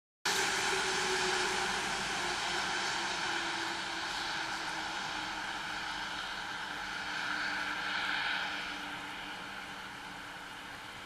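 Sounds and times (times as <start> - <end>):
distant engine drone: 0.3 - 11.0.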